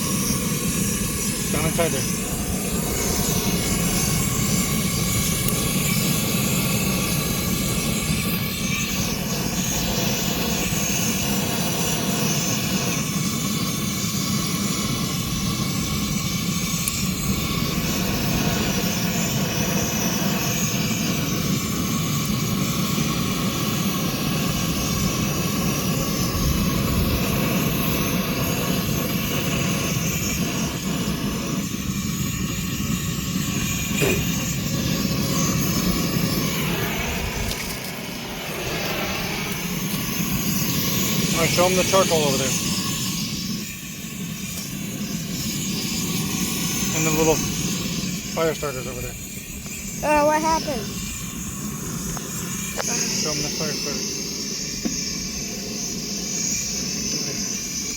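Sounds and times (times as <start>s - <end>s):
gas torch roaring: 0.0s - 57.9s.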